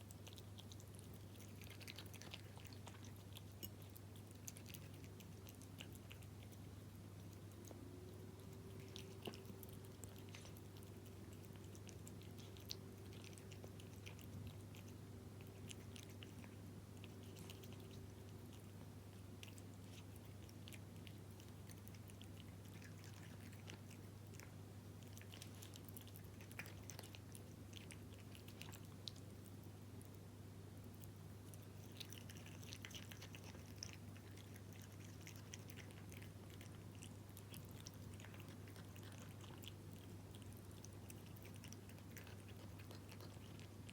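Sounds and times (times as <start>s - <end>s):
cat chewing wet food: 0.0s - 43.9s
steady low hum: 0.0s - 43.9s.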